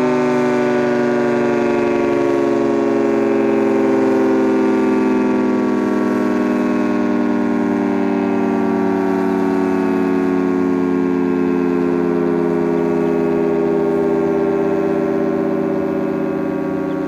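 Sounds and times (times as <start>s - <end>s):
three-tone electromechanical siren: 0.0s - 17.0s.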